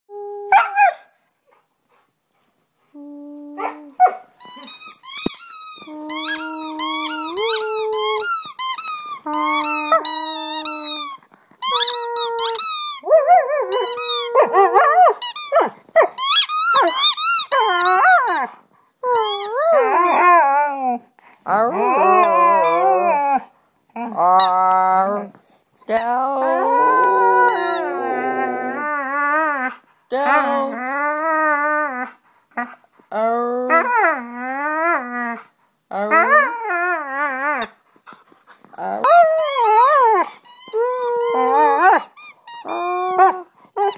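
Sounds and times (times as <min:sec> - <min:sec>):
husky yelping and howling: 0:00.1 - 0:01.2, 0:03.4 - 0:05.0, 0:05.8 - 0:21.0, 0:21.6 - 0:25.3, 0:25.9 - 0:32.8, 0:33.6 - 0:37.9, 0:38.5 - 0:43.9.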